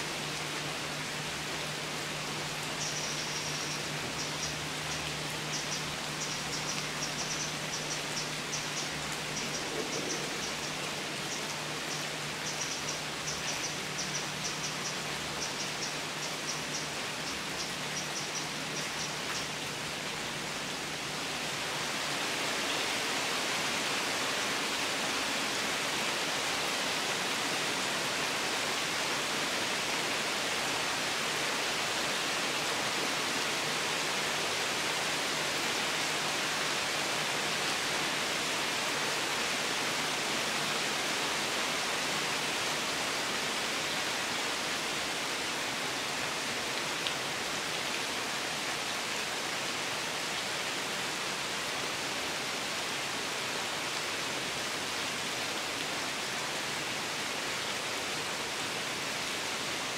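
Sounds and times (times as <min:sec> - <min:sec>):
rain falling through trees: 0:00.0 - 0:59.9.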